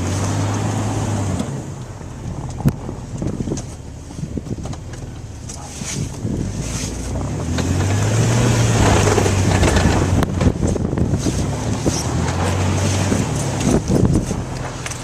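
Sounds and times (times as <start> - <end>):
tyres rushing through snow: 0.0 - 15.0
vehicle engine under load: 0.0 - 15.0.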